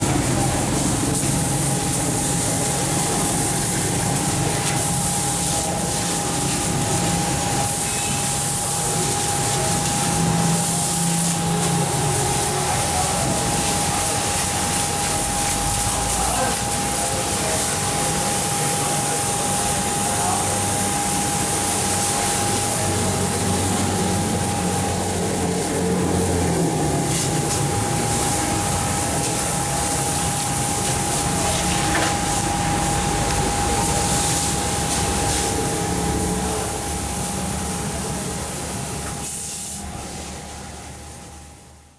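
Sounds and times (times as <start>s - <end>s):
pressure pump whining: 0.0s - 39.9s
water jet spraying: 0.0s - 40.9s.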